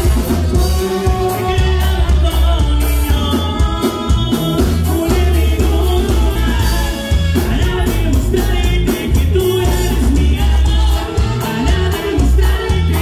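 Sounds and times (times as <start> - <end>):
guitar bass and drums band: 0.0 - 13.0
person singing: 0.0 - 13.0.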